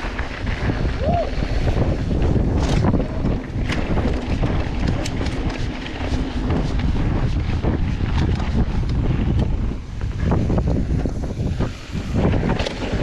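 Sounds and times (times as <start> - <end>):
bike rattling and clicking: 0.0 - 13.0
gravel crunching: 0.0 - 13.0
tyres rumbling on dirt: 0.0 - 13.0
wind buffeting microphone: 0.0 - 13.0.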